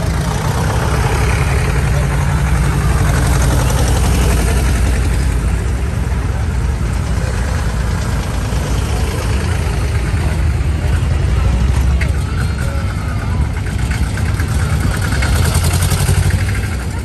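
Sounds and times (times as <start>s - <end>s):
tractor engines pulsing: 0.0s - 17.0s.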